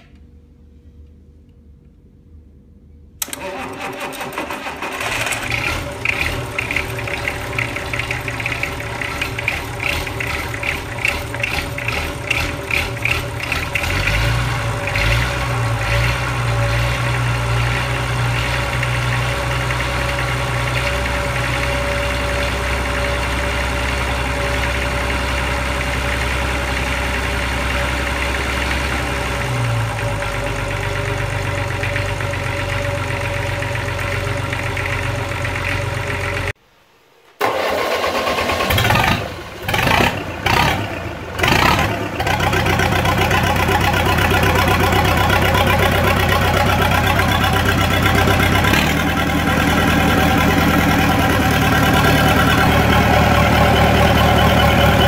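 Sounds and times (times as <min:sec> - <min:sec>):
diesel engine starting and idling: 0:03.1 - 0:36.6, 0:37.4 - 0:55.0.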